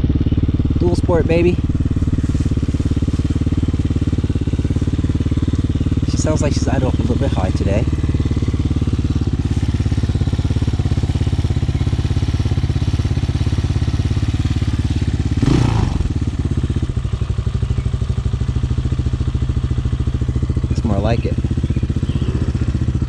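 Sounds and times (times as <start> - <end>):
dirt bike engine idling: 0.0 - 23.0
engine rev: 0.0 - 23.0.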